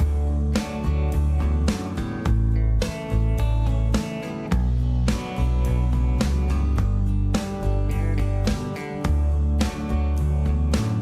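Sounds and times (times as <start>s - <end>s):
background music with beat: 0.0s - 11.0s
deep held bass notes: 0.0s - 11.0s.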